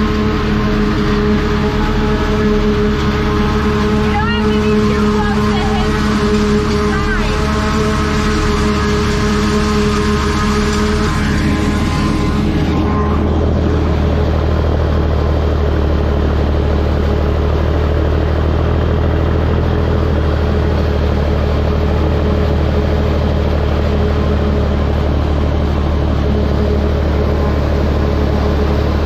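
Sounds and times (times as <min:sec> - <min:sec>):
forage harvester diesel drone: 0:00.0 - 0:29.0
truck engine running: 0:00.0 - 0:29.0.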